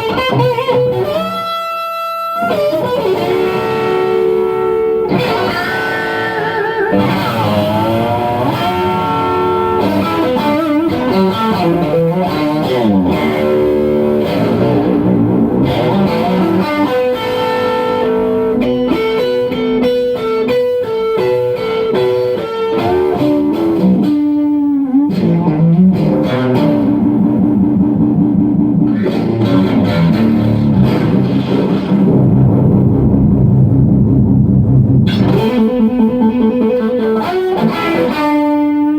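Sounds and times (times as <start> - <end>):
electric guitar lead: 0.0 - 38.9.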